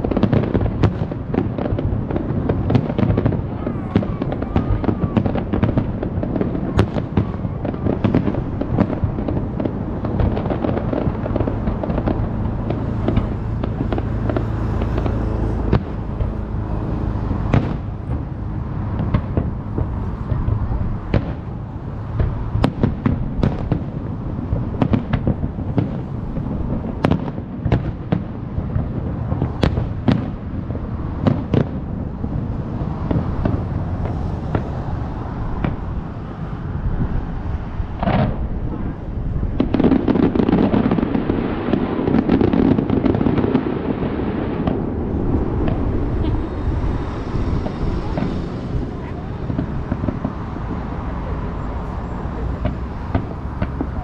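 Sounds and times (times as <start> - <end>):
fireworks rumble and crackle: 0.0 - 54.0.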